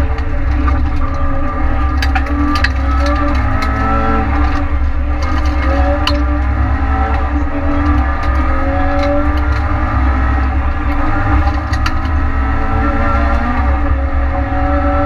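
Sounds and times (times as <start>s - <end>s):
knocks and rattles: 0.0s - 13.9s
car engine revving: 0.0s - 15.0s
heavy low rumble: 0.0s - 15.0s.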